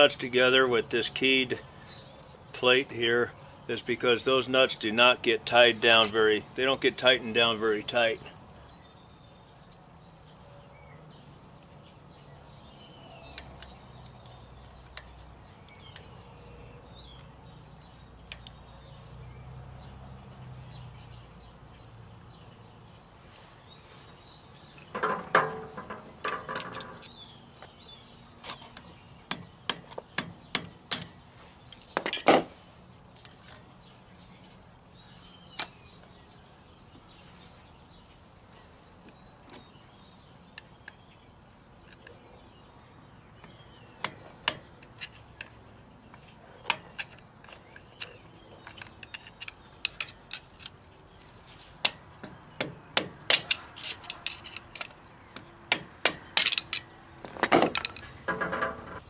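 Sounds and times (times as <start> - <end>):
birds chirping faintly: 0.0 - 59.0.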